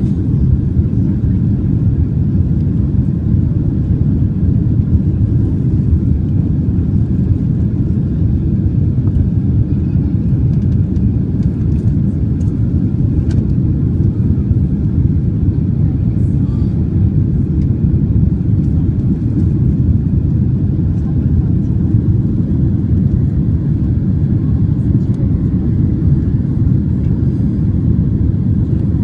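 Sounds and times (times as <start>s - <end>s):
jet engine rumble in cabin: 0.0s - 29.0s.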